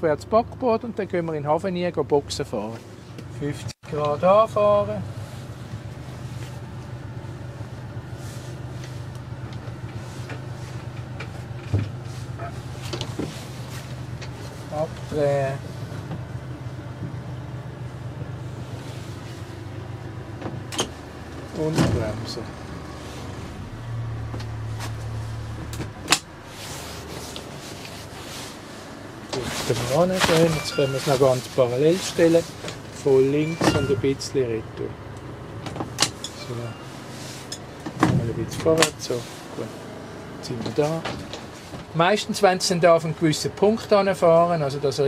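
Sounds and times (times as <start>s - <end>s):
motorboat engine humming: 2.9s - 44.4s.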